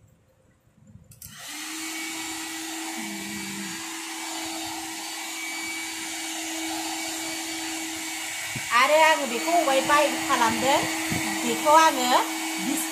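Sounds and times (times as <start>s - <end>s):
hair dryer running: 1.2s - 12.9s.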